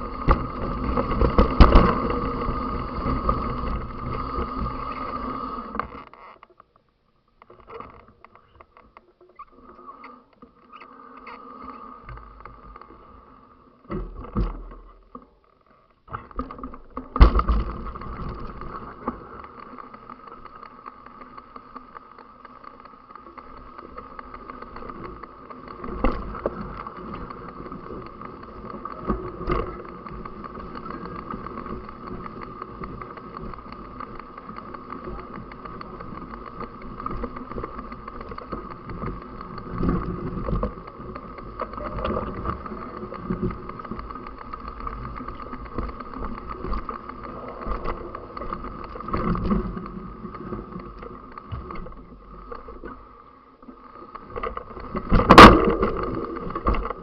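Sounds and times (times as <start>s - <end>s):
riding noise with whine and rumble: 0.0s - 57.0s.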